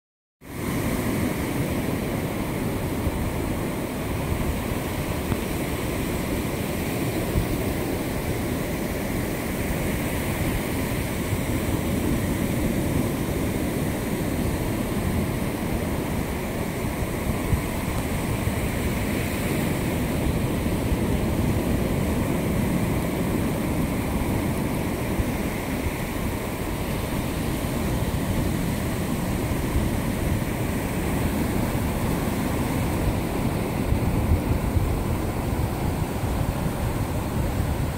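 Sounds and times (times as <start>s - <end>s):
surf roaring: 0.4s - 37.9s
wind rumbling on microphone: 0.4s - 37.9s.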